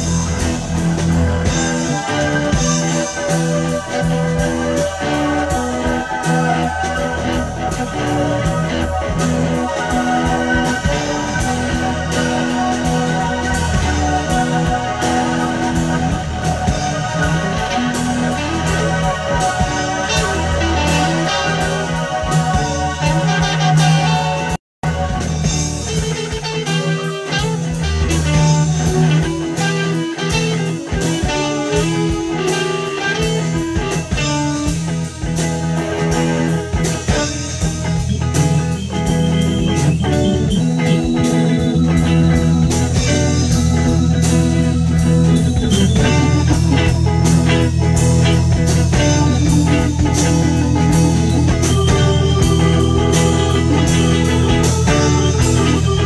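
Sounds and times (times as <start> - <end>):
low bass line: 0.0 - 26.7, 33.2 - 56.0
electric guitars: 0.0 - 56.0
keyboards: 0.0 - 56.0.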